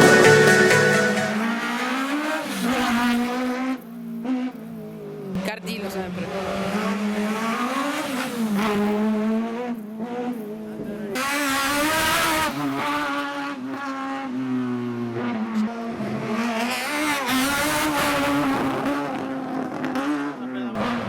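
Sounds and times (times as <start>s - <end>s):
car engine revving hard: 1.4s - 4.6s, 5.4s - 21.0s.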